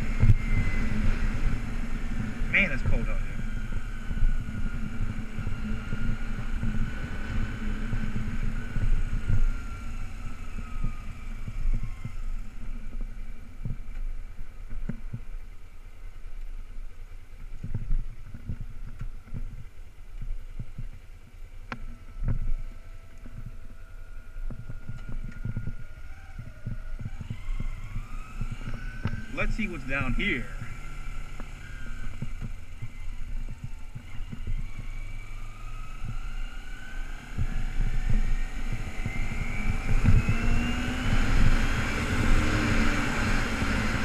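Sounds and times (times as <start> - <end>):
motorcycle engine running: 0.0 - 44.0
wind buffeting microphone: 0.0 - 44.0.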